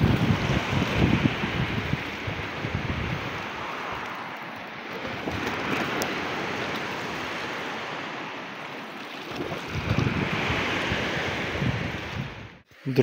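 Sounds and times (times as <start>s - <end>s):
wind buffeting microphone: 0.0s - 8.6s, 9.3s - 12.7s
sea waves washing on shore: 0.0s - 13.0s.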